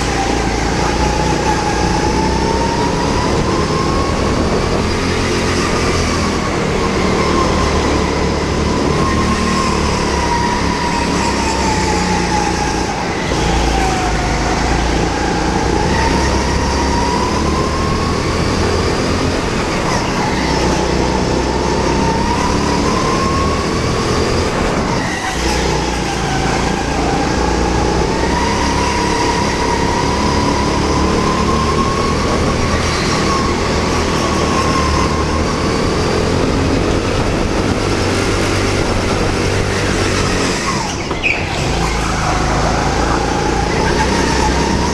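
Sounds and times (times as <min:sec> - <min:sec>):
go-kart engine whining: 0:00.0 - 0:44.9.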